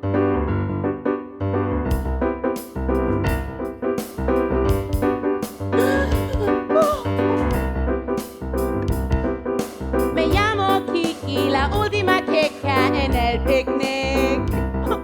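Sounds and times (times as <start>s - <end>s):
bass line: 0.0s - 0.9s, 1.5s - 15.0s
piano chords: 0.0s - 15.0s
drums and cymbals beat: 1.9s - 15.0s.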